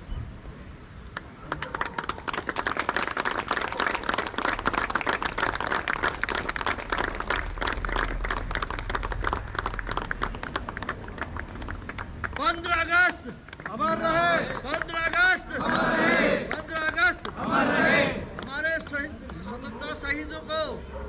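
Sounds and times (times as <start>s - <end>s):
crowd clapping: 1.2s - 19.6s.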